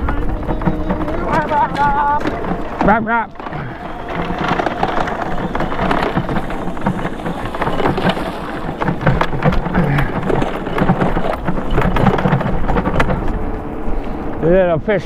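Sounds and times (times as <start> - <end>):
bike rattling and thumping: 0.0 - 15.0.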